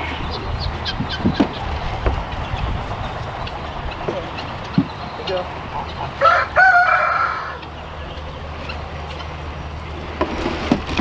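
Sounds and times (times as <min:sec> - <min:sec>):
farm animal calling: 0:00.0 - 0:11.0.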